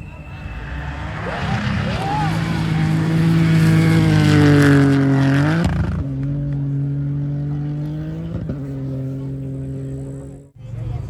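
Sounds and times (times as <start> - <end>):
rally car engine at high revs: 0.4 - 10.6.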